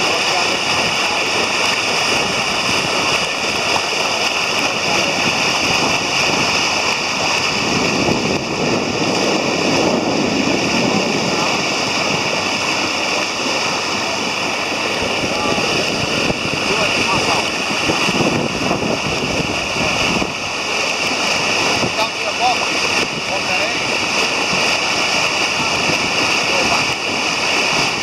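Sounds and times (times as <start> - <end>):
water rushing along a hull: 0.0 - 28.0
wind on microphone: 0.0 - 28.0.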